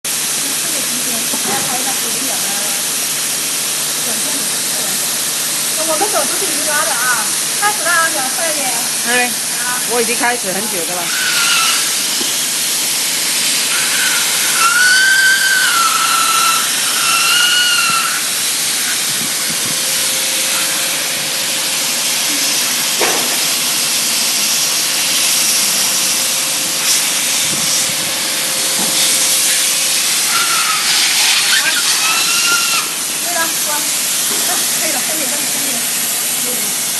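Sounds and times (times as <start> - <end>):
hot-air welding machine hissing: 0.1 - 36.9.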